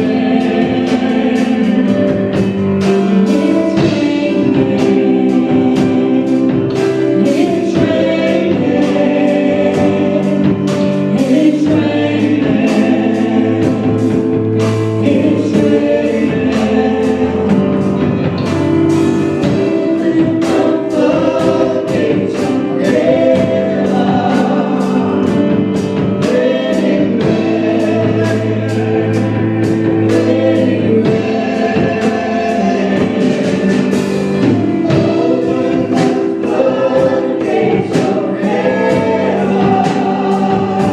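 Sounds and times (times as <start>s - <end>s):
choir singing gospel: 0.0s - 40.9s
instrumental backing with beat: 0.0s - 40.9s.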